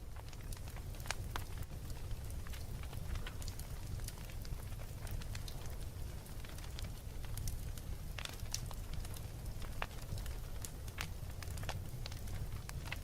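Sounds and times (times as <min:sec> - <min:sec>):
fire pops and snaps: 0:00.0 - 0:13.0
wood fire crackling: 0:00.0 - 0:13.0.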